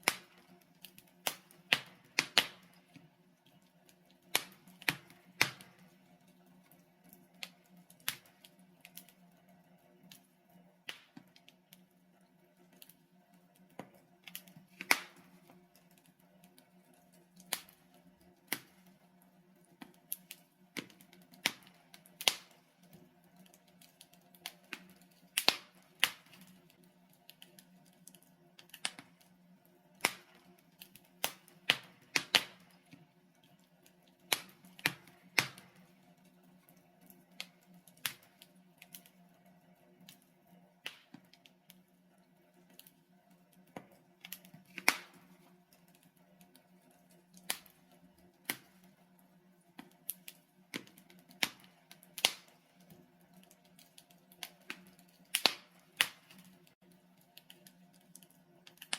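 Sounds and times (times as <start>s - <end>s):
logs crackling in fireplace: 0.0s - 58.9s.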